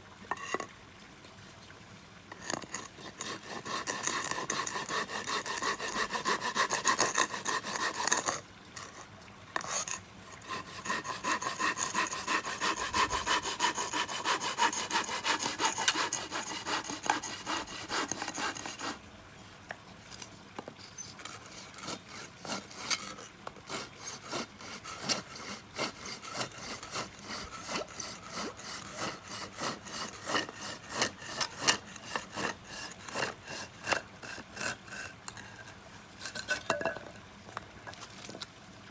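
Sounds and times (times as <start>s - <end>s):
hand saw cutting wood: 2.3s - 9.0s, 9.6s - 19.0s, 20.9s - 36.7s.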